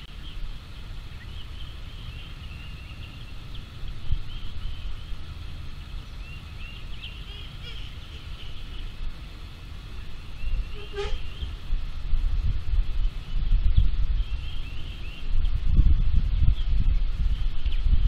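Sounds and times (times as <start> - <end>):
birds chirping: 0.0 - 12.1, 12.7 - 18.0
wind rumble on microphone: 0.0 - 18.0.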